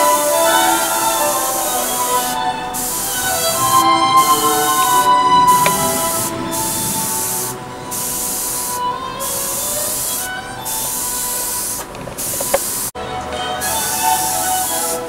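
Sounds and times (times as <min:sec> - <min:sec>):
airbrush spraying hiss: 0:00.0 - 0:13.0, 0:13.6 - 0:15.0.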